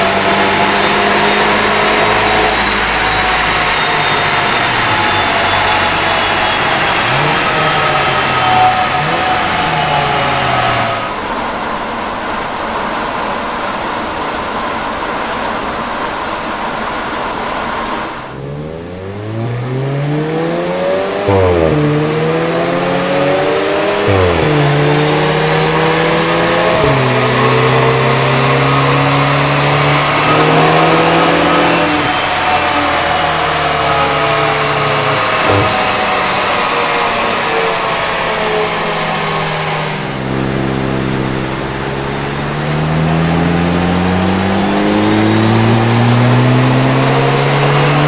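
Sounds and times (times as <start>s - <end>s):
car engine accelerating through gears: 0.0s - 11.7s, 15.8s - 48.0s.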